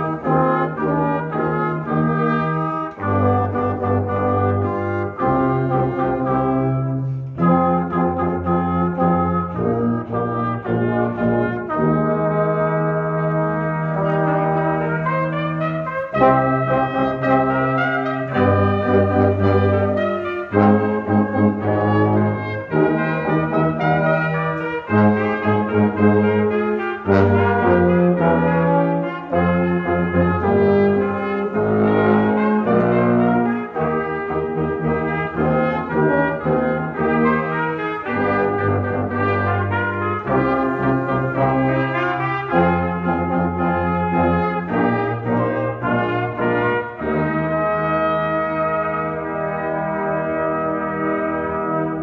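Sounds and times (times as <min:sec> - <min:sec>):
brass ensemble playing hymn: 0:00.0 - 0:52.0.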